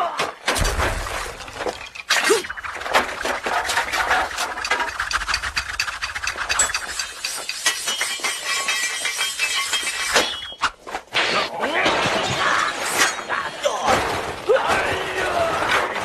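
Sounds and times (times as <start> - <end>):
crashing and breaking: 0.2 - 16.0.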